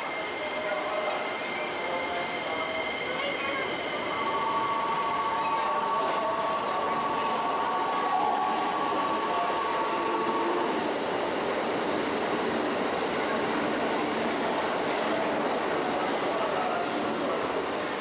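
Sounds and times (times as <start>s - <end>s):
electric train whine: 0.0s - 18.0s
rail noise: 0.0s - 18.0s.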